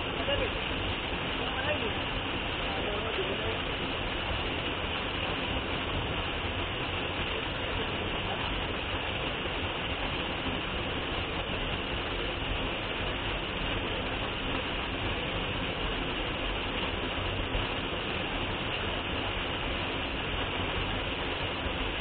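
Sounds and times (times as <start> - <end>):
waterfall rushing onto rock: 0.0 - 22.0.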